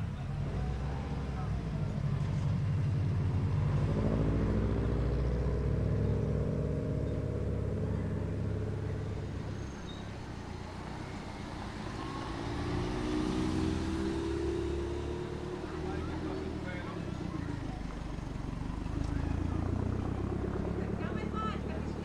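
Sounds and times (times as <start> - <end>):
car engine accelerating: 0.0 - 22.0
second car engine rising: 0.0 - 22.0.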